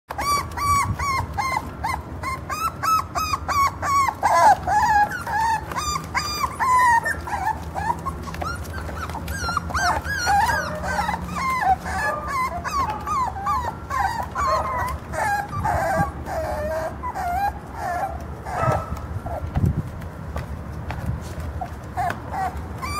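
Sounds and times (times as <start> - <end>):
puppies whining: 0.1 - 22.9.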